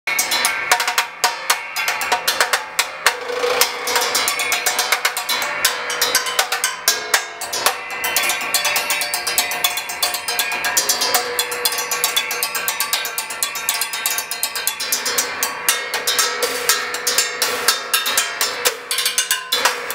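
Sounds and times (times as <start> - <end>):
sticks striking metal spring and rods: 0.1 - 19.9.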